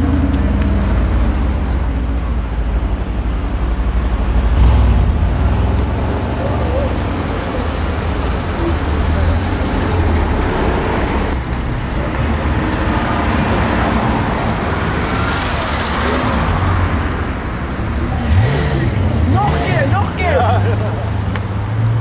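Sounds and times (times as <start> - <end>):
car engine rumble driving off: 0.0 - 19.9.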